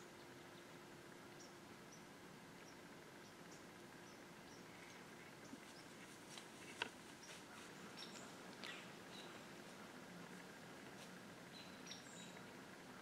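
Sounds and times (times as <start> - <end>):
faint bird chirps: 0.0 - 6.1, 7.1 - 10.0, 11.4 - 13.0.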